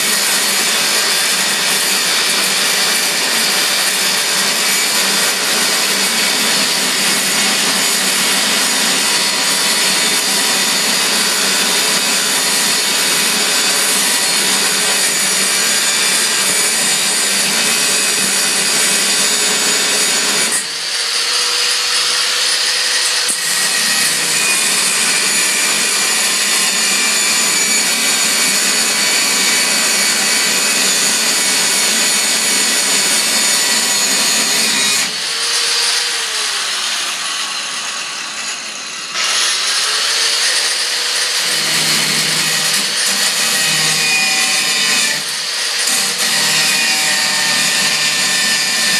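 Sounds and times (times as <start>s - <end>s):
angle grinder cutting steel: 0.0s - 48.9s.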